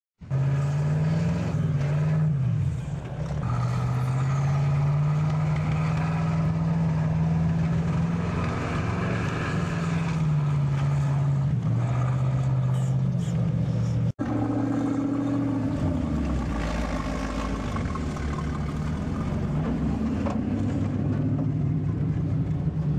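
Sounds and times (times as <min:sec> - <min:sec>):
truck engine running: 0:01.4 - 0:22.9.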